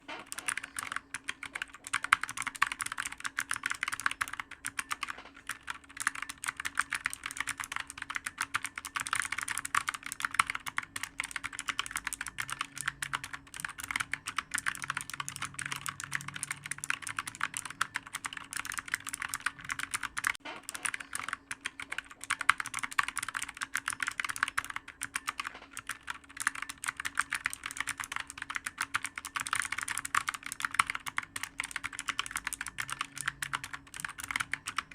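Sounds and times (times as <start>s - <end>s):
faint steady hum: 0.0s - 34.9s
typing on clicky keyboard: 0.0s - 34.9s.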